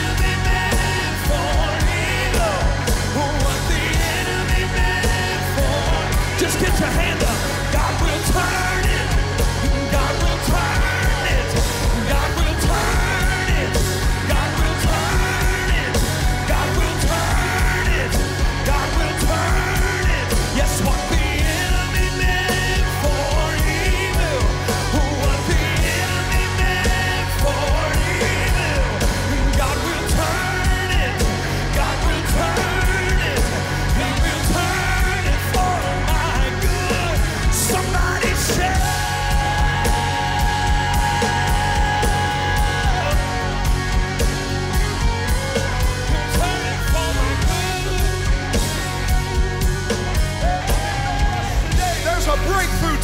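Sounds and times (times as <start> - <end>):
worship band music with singing: 0.0 - 53.0.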